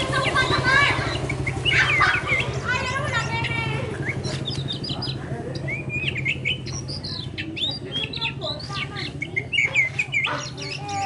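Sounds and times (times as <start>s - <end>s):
songbird whistling and chirping: 0.0s - 11.0s.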